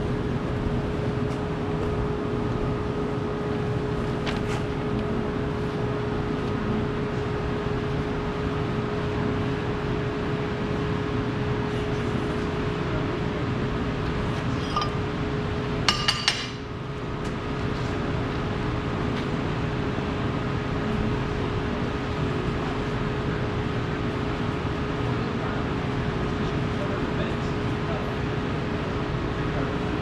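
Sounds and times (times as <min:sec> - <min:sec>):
workshop hum: 0:00.0 - 0:24.6.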